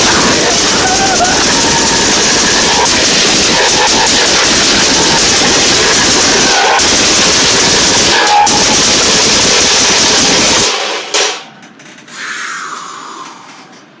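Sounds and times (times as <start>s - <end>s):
explosion roar: 0.0s - 11.5s.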